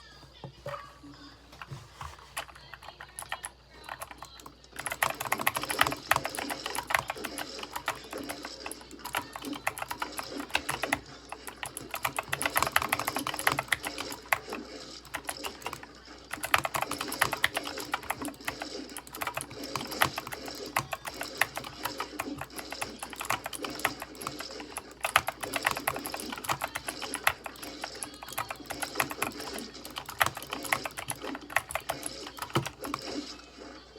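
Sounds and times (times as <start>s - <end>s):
keyboard typing: 1.6s - 33.8s.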